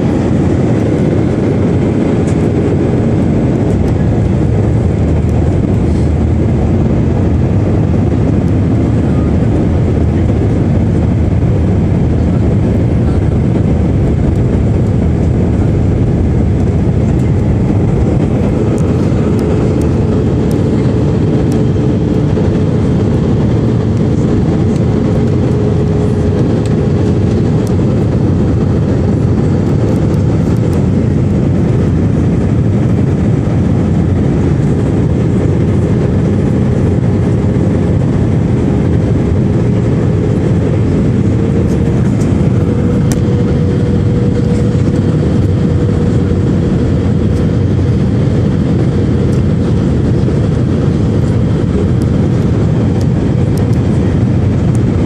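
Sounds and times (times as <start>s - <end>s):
aircraft cabin engine noise: 0.0s - 55.0s.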